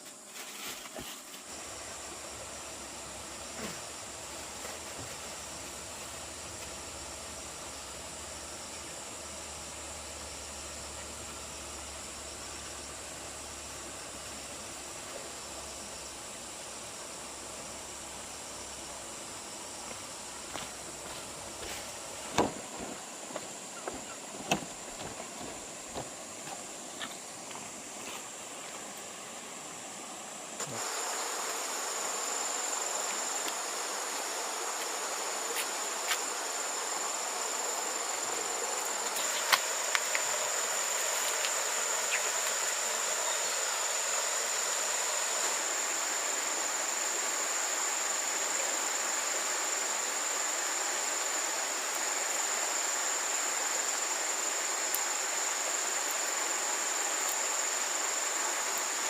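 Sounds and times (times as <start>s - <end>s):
insects shrilling: 0.2s - 59.0s.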